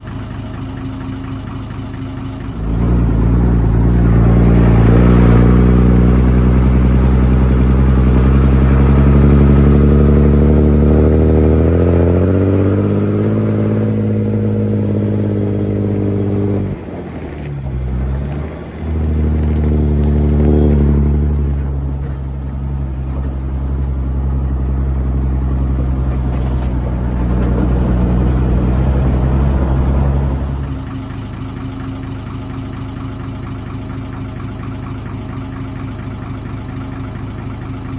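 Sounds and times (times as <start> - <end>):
truck diesel engine revving: 0.9 - 37.9.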